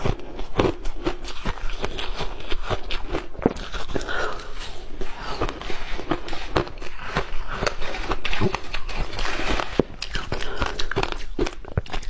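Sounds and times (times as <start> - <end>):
chewing and crunching ice: 0.0 - 12.0.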